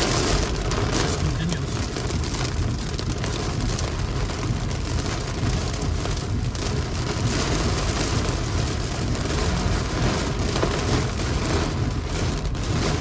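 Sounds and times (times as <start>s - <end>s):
heavy rain on a car: 0.0s - 13.0s
low rumble of moving car: 0.0s - 13.0s.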